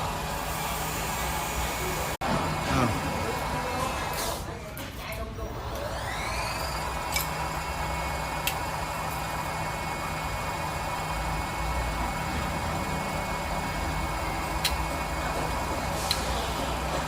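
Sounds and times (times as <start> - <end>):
milling machine hum and whine: 0.0 - 4.2, 5.6 - 17.0.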